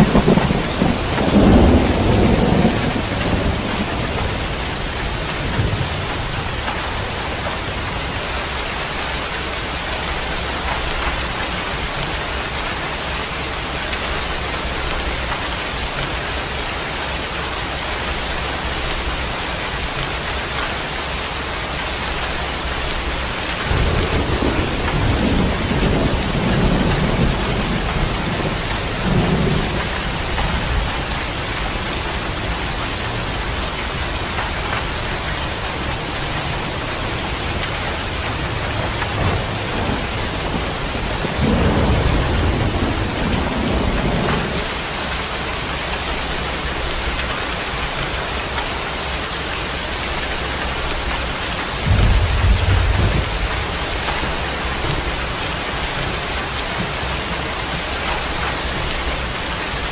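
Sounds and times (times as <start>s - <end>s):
thunder rumbling: 0.0s - 17.0s, 17.8s - 48.8s, 49.8s - 59.9s
steady rain falling: 0.0s - 59.9s.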